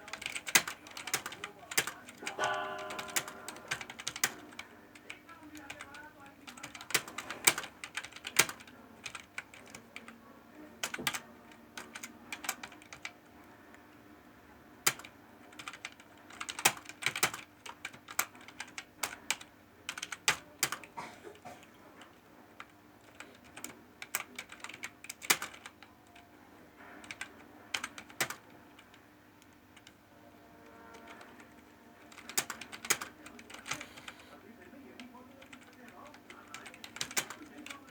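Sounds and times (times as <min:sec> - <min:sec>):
laptop keyboard typing: 0:00.0 - 0:13.3, 0:14.8 - 0:30.1, 0:30.7 - 0:37.9.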